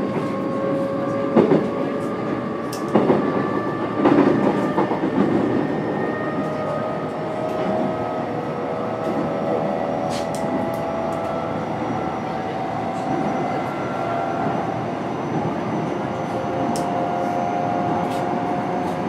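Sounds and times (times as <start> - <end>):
rumble of train wheels: 0.0 - 19.0.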